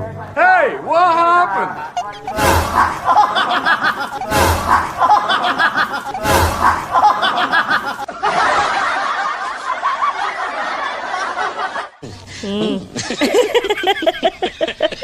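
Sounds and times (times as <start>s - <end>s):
giggling laughter: 1.8s - 15.0s
snickering laughter: 1.8s - 15.0s.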